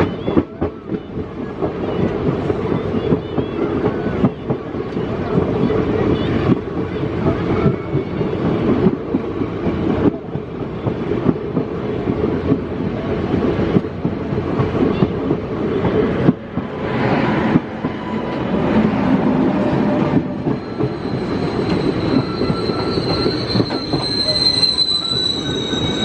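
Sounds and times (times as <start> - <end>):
train coaches rumbling on track: 0.0 - 26.0.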